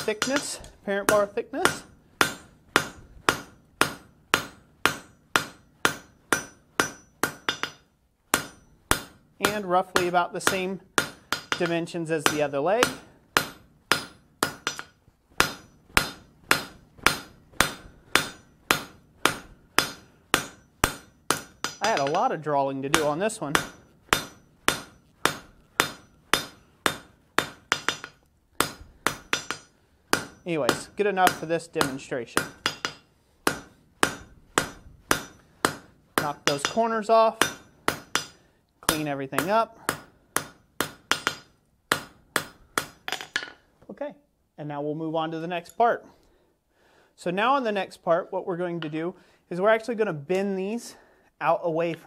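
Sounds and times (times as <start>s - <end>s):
hammer striking metal on anvil: 0.0s - 22.3s, 22.9s - 43.6s.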